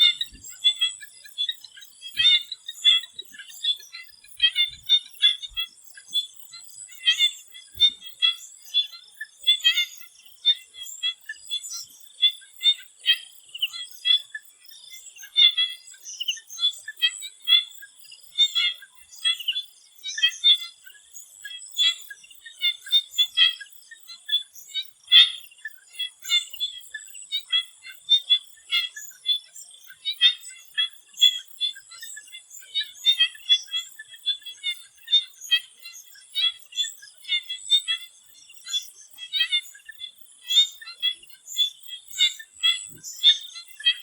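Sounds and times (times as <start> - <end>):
frogs chirping: 0.0 - 44.0.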